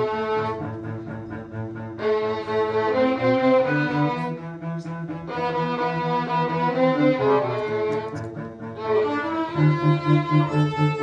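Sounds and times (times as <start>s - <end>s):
string ensemble bowed notes: 0.0s - 11.0s.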